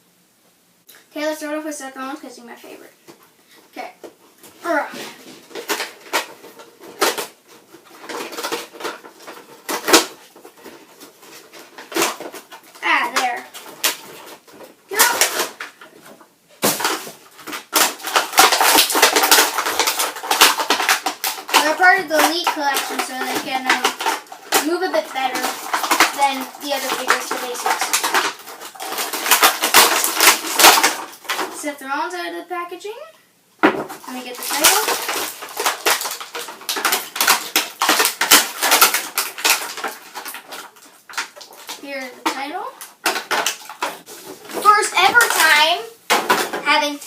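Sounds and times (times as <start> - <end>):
plastic and cardboard crinkling: 2.4 - 32.2, 33.6 - 47.0
plastic packaging crackling: 4.5 - 31.7, 33.6 - 47.0.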